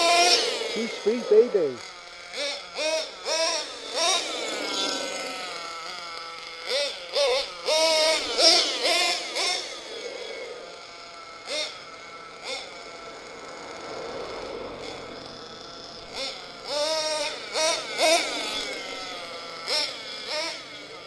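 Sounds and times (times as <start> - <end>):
nitro engine revving: 0.0 - 21.0.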